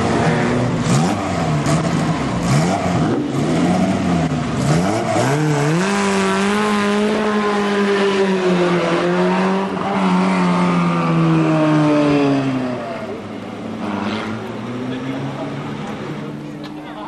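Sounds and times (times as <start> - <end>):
racing car engine revving: 0.0 - 16.8.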